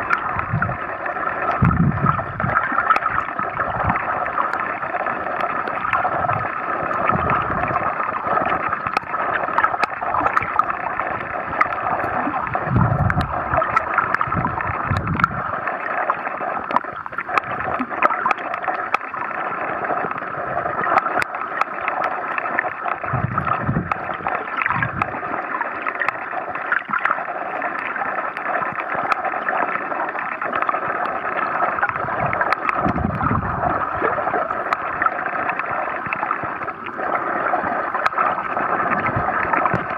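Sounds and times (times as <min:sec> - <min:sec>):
muffled underwater hiss: 0:00.0 - 0:39.9
sharp underwater clicks: 0:00.1 - 0:04.7, 0:05.4 - 0:19.2, 0:20.8 - 0:25.3, 0:25.9 - 0:29.3, 0:30.2 - 0:36.8.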